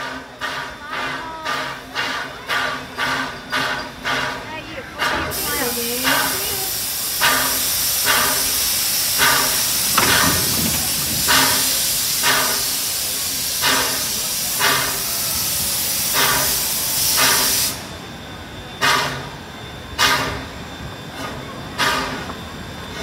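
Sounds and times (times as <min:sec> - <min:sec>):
steam hissing: 0:00.0 - 0:23.0
steam locomotive chuffing: 0:00.0 - 0:23.0.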